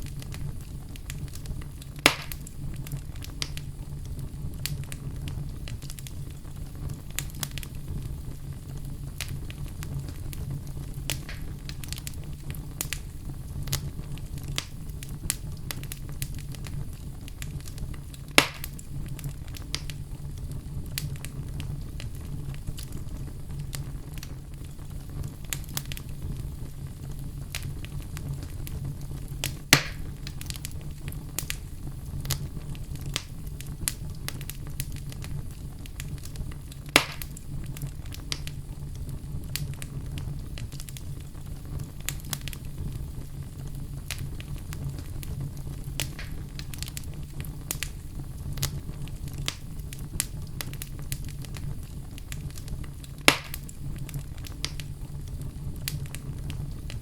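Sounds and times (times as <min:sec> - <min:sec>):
loud fire pops: 0:00.0 - 0:57.0
wood fire crackling: 0:00.0 - 0:57.0.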